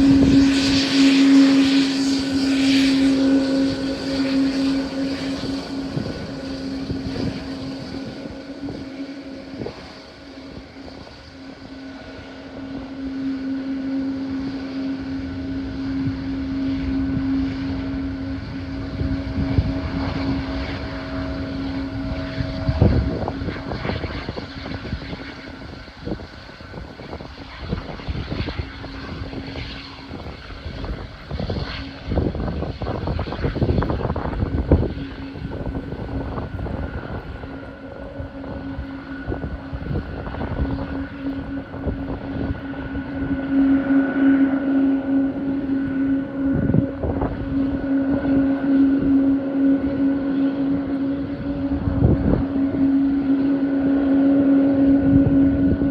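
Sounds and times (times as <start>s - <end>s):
distant jet engines whining: 0.0s - 55.9s
wind buffeting microphone: 0.0s - 55.9s.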